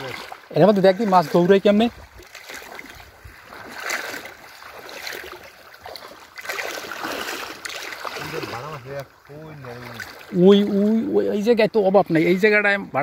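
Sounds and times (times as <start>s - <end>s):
muddy water sloshing around legs: 0.0s - 11.5s.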